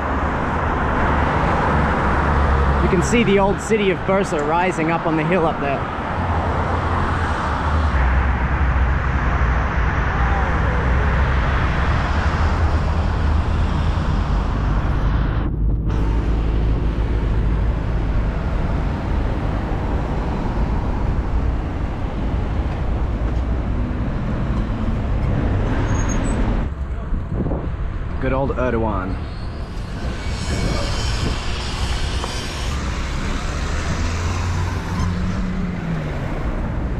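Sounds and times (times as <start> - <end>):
road traffic: 0.0 - 36.9
wind rumbling on microphone: 5.9 - 36.9.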